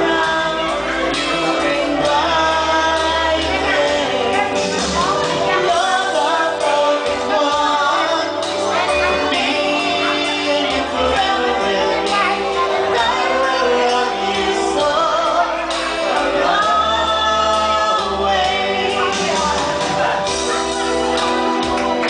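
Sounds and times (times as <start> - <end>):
person singing into a microphone: 0.0 - 22.0
pop backing track: 0.0 - 22.0.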